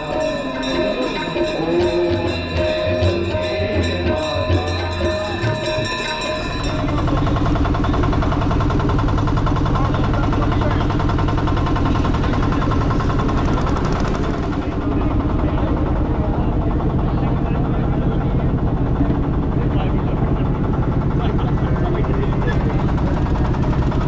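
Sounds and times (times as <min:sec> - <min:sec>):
motorboat engine running: 0:00.0 - 0:24.0.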